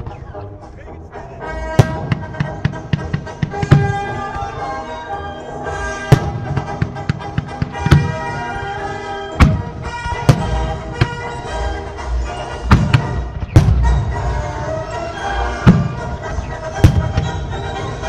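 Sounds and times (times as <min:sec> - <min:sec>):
music: 0:00.0 - 0:18.0
fireworks bursting: 0:01.8 - 0:04.7, 0:05.7 - 0:18.0.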